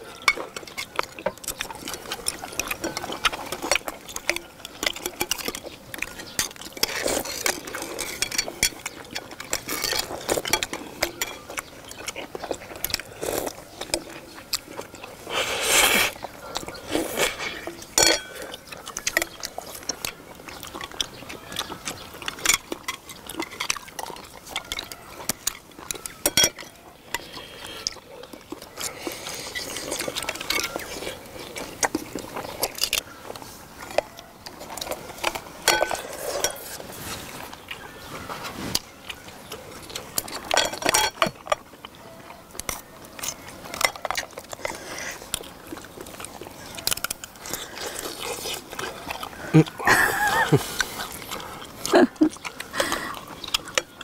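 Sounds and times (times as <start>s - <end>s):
chopsticks and shells clinking: 0.0s - 15.0s, 16.1s - 27.9s, 28.6s - 33.0s, 33.8s - 36.8s, 39.9s - 54.0s
wet chewing and slurping: 0.0s - 54.0s.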